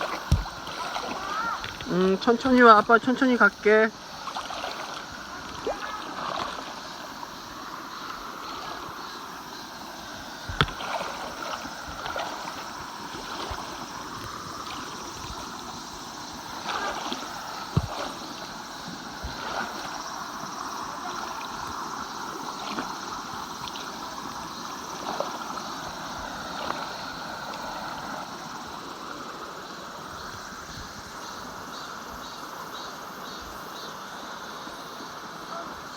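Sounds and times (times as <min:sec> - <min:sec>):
stream running: 0:00.0 - 0:35.9.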